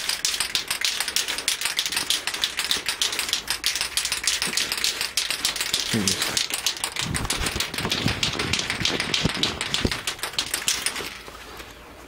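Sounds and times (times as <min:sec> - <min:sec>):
spray can ball rattling: 0:00.0 - 0:11.2.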